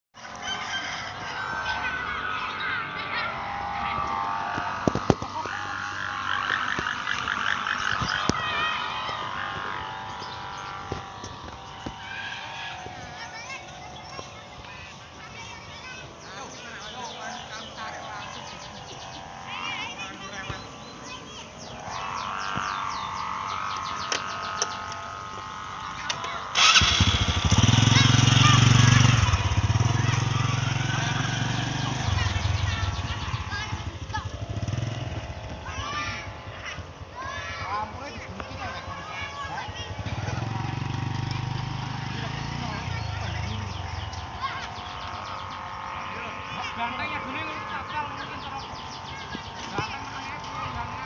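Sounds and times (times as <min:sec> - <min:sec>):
kite hummers warbling: 0:00.2 - 0:26.6, 0:27.7 - 0:51.0.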